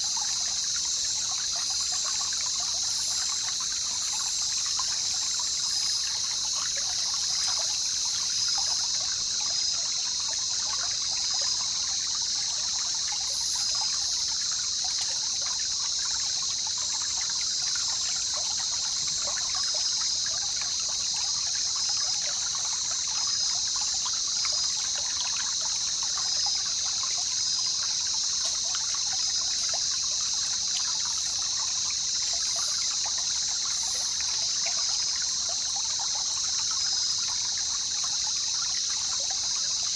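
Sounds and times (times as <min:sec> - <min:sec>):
high-pitched insect chorus: 0:00.0 - 0:39.9
water trickling and babbling: 0:00.0 - 0:39.9.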